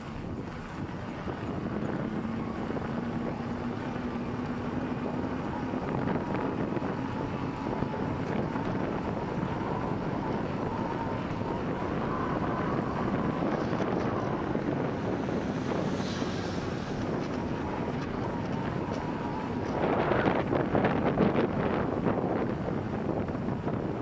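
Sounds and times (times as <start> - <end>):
bike tyres rolling on pavement: 0.0 - 24.0
wind buffeting microphone: 0.0 - 24.0.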